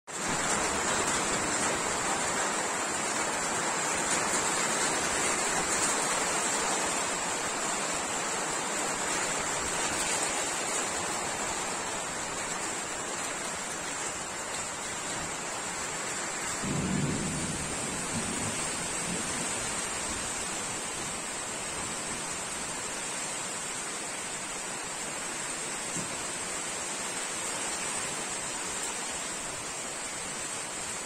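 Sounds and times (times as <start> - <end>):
hail and rain pelting down: 0.1 - 31.0.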